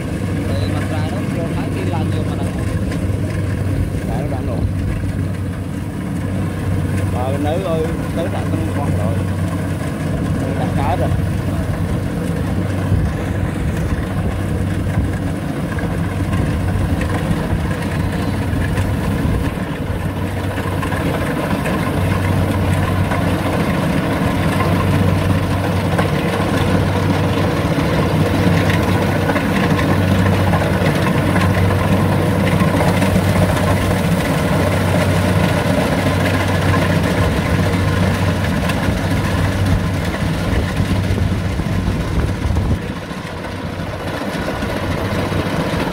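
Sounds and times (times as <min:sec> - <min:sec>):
harvester engine humming: 0:00.0 - 0:45.9.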